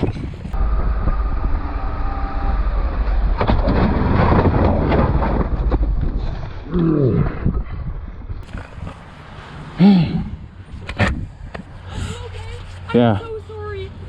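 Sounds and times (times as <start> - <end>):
road noise: 0.0 - 7.2, 8.0 - 14.0.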